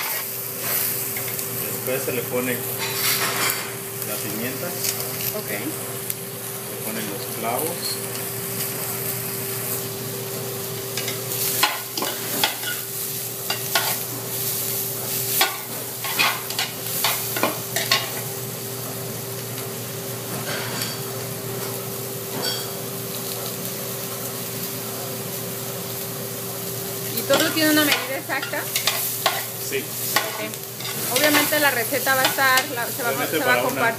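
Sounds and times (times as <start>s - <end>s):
food sizzling in oil: 0.0s - 33.9s.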